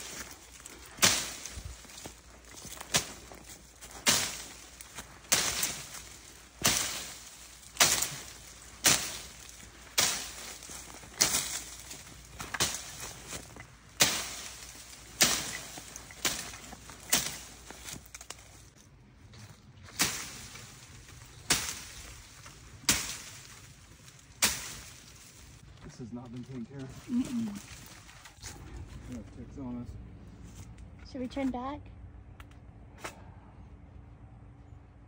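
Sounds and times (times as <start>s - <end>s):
leaves and branches swishing: 0.0s - 29.4s
footsteps: 0.0s - 31.7s.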